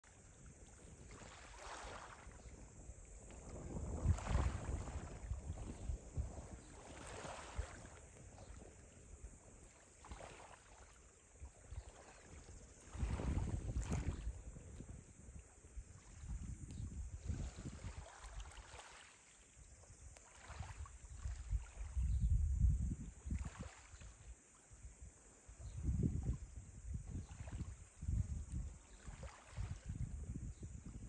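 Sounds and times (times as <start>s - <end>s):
wind buffeting microphone: 0.4s - 9.6s, 11.7s - 18.6s, 20.0s - 24.1s, 25.5s - 31.0s.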